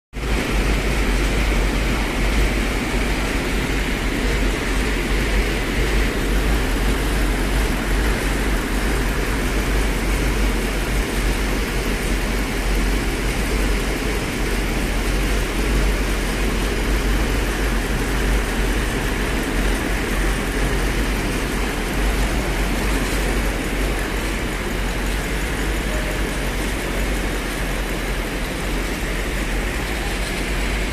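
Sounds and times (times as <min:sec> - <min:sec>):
car engine running steadily: 0:00.1 - 0:30.9.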